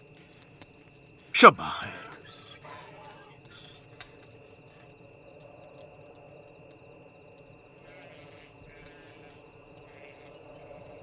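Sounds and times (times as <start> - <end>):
soft ticks: 0.0 - 1.3, 2.2 - 11.0.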